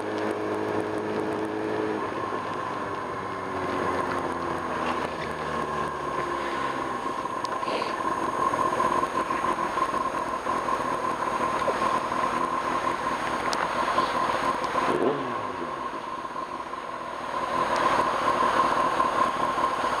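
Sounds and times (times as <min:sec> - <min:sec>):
high whine: 0:00.0 - 0:20.0
motorcycle engine running: 0:00.0 - 0:20.0
wind and road noise: 0:00.0 - 0:20.0.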